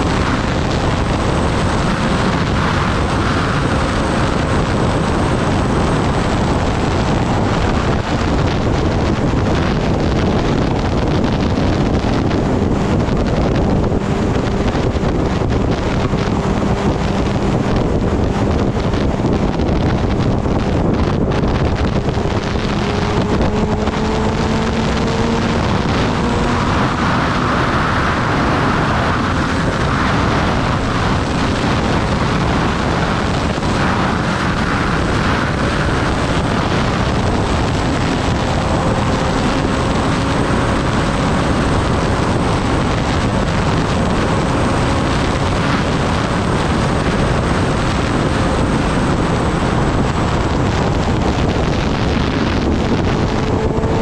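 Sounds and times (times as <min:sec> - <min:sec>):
motorcycle engine humming: 0:00.0 - 0:54.0
wind rushing over microphone: 0:00.0 - 0:54.0.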